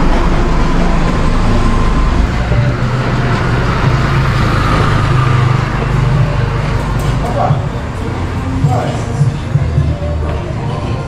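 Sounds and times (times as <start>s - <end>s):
rushing noise: 0.0s - 10.1s
vehicle engine running: 0.0s - 11.0s.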